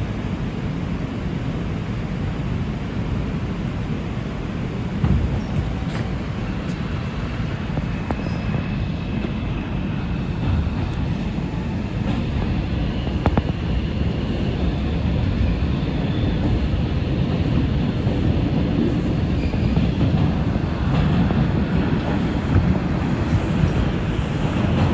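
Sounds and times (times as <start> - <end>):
wheels rumbling on rail: 0.0 - 24.9.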